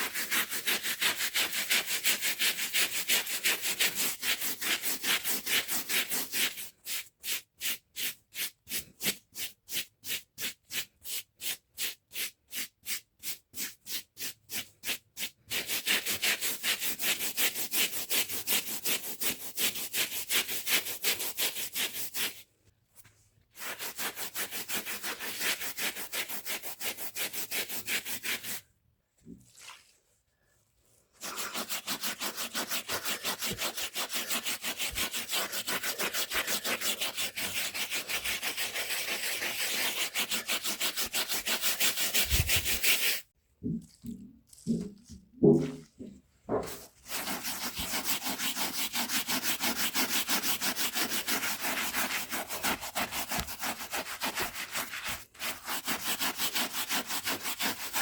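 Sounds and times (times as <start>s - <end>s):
hand brush scrubbing rug: 0.0s - 22.4s, 23.5s - 28.7s, 29.4s - 30.0s, 31.0s - 58.0s.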